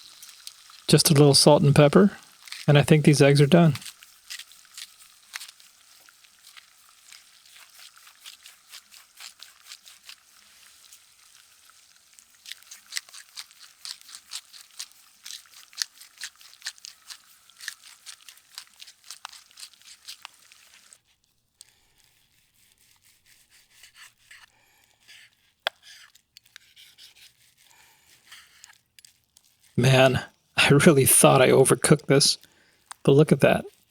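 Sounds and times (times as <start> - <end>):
fat crackling and spitting in pan: 0.0 - 33.9.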